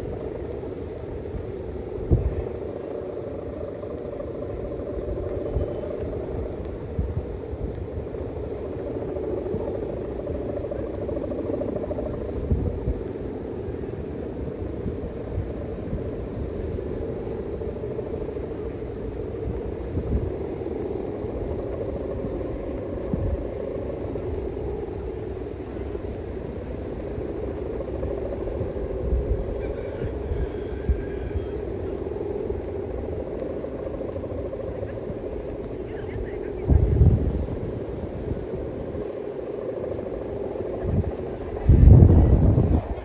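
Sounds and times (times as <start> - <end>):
wavering mid-pitched drone: 0.0 - 43.0
wind buffeting microphone: 0.0 - 43.0.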